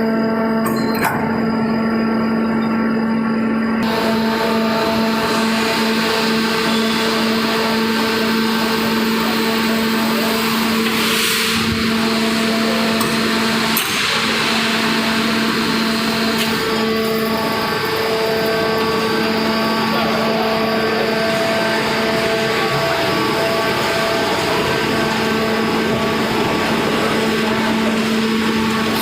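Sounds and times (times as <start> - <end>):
hydraulic pump humming: 0.0 - 29.0.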